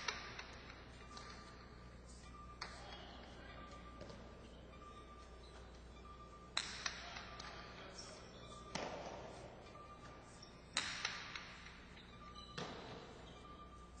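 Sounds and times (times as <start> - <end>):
ball striking walls in a hall: 0.0 - 14.0.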